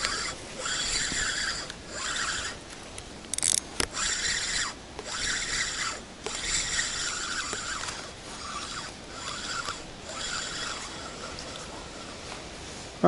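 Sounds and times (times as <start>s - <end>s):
fishing reel whirring: 0.0s - 2.7s, 3.3s - 12.2s.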